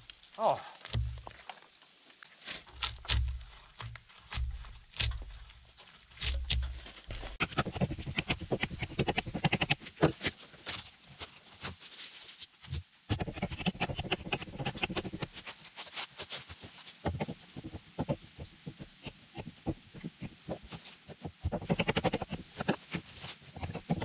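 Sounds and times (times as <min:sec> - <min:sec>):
hatchet chopping and scraping bark: 0:00.0 - 0:01.7, 0:02.4 - 0:10.8, 0:13.1 - 0:24.0.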